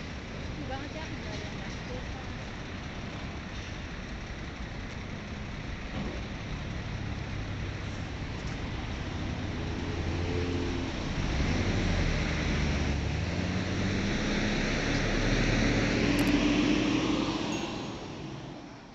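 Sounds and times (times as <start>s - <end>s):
road traffic passing: 0.0s - 18.9s
vehicle engines accelerating: 0.0s - 18.9s.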